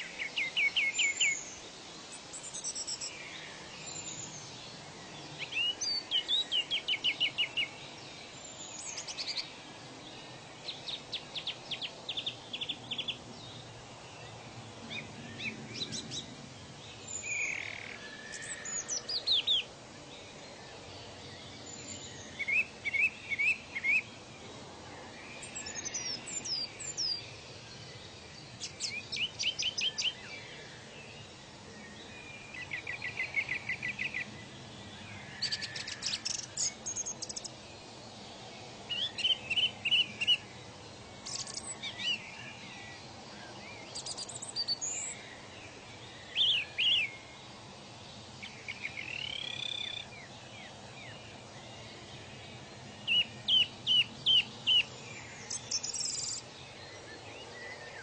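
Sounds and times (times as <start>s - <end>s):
songbirds singing: 0.0s - 58.0s
steady background hiss: 0.0s - 58.0s.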